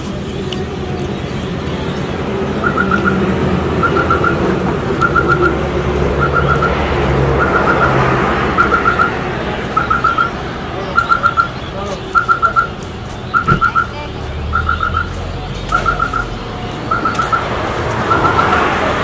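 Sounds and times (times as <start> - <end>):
high chirping pips: 0.0 - 18.8
street noise: 0.0 - 19.0
vehicle engine running: 0.0 - 19.0.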